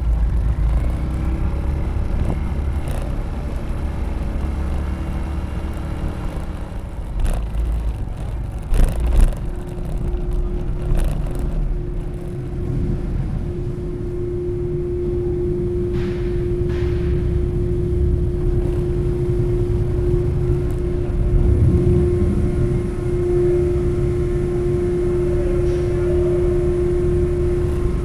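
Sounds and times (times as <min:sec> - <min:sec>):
low vehicle rumble: 0:00.0 - 0:28.0
steady hum: 0:01.3 - 0:28.0.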